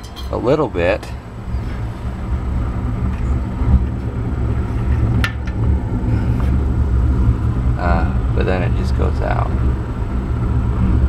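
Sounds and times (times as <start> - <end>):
flame rumbling: 0.3 - 11.0
blowers running: 0.4 - 11.0.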